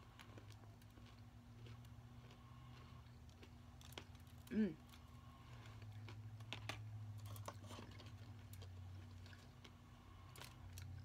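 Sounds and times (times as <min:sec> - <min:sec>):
chocolate crunching chewing: 0:00.0 - 0:11.0
low steady hum: 0:00.0 - 0:11.0.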